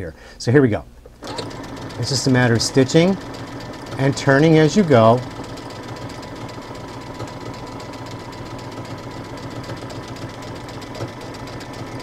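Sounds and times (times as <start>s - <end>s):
sewing machine running: 1.2s - 12.0s.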